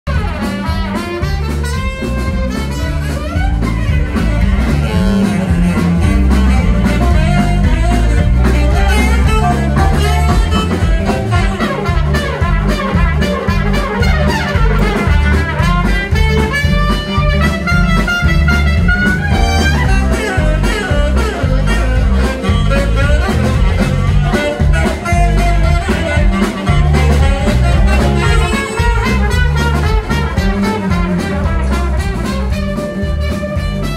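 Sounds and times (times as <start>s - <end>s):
live band playing upbeat music: 0.1s - 33.9s
saxophone: 0.1s - 33.9s
trumpet: 0.1s - 33.9s.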